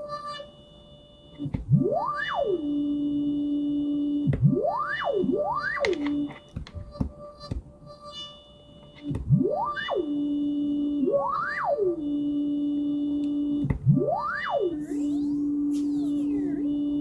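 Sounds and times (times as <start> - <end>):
steady low hum: 0.0 - 17.0
synthesized gliding tone: 1.7 - 17.0.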